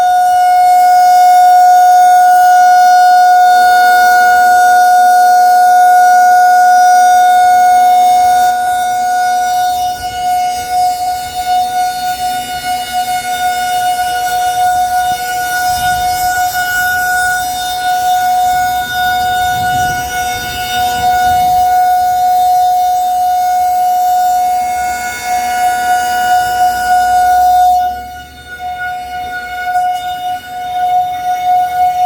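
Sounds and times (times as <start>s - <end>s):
rotating warning siren: 0.0s - 32.0s.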